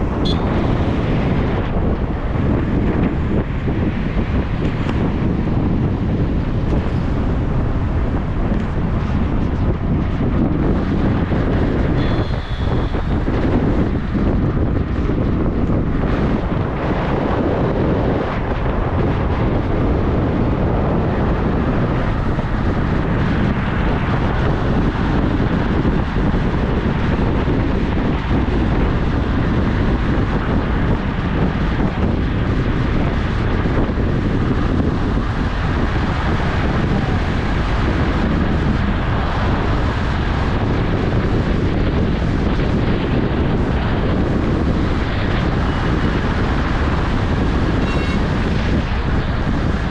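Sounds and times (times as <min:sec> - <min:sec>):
moving vehicle noise: 0:00.0 - 0:49.9
wind buffeting microphone: 0:00.0 - 0:49.9.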